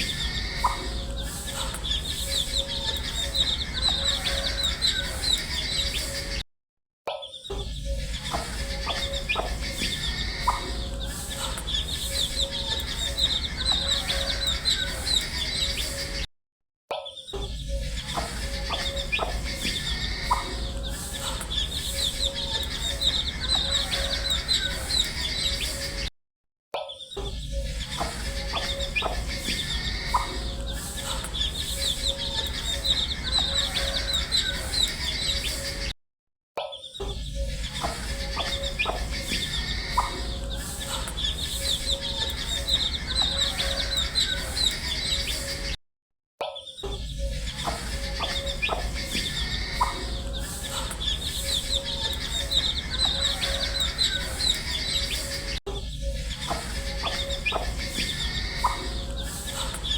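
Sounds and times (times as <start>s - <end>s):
baby chicks peeping: 0.0s - 6.4s, 7.5s - 16.2s, 17.6s - 26.1s, 27.4s - 35.9s, 37.1s - 45.8s, 46.9s - 59.9s.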